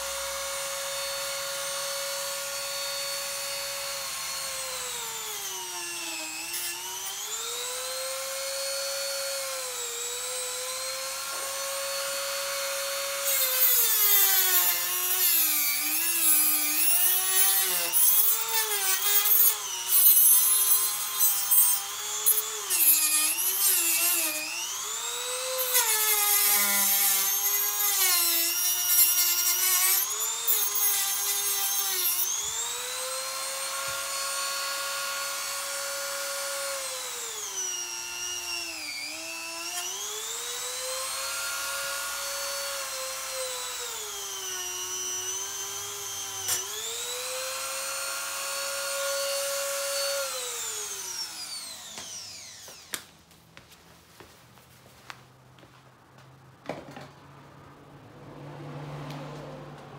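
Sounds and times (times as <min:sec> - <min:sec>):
rotary tool whining: 0:00.0 - 0:53.0.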